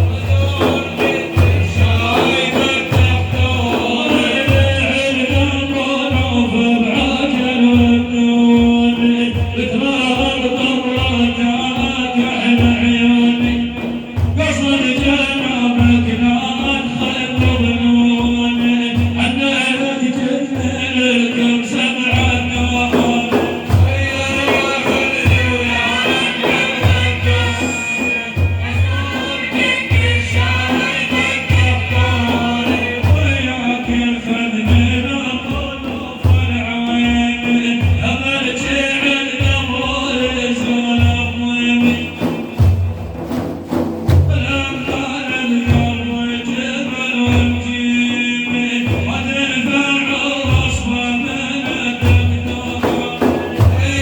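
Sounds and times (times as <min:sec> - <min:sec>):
man singing praise song: 0:00.0 - 0:54.0
steady drum beat: 0:00.0 - 0:54.0.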